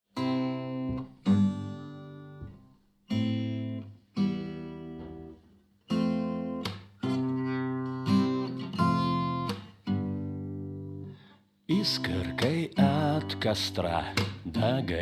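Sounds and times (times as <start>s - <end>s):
acoustic guitar chords ringing: 0.2s - 15.0s.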